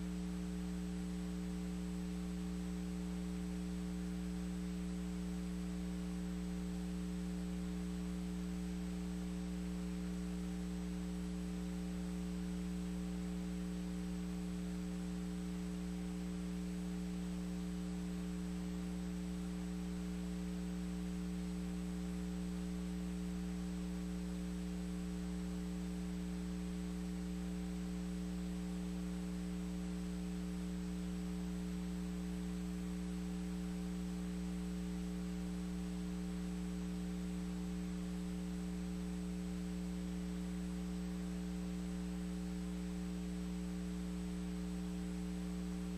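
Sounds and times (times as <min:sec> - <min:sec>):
electrical mains hum: 0:00.0 - 0:45.9
faint high-pitched whine: 0:00.0 - 0:45.9.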